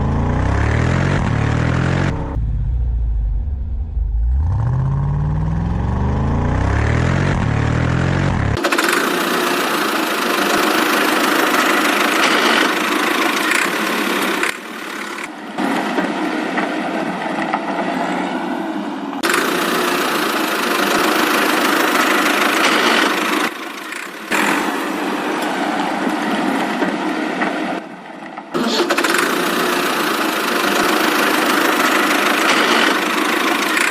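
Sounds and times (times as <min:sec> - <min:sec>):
tractor engine running: 0:00.0 - 0:17.6, 0:19.2 - 0:27.5, 0:28.6 - 0:33.9.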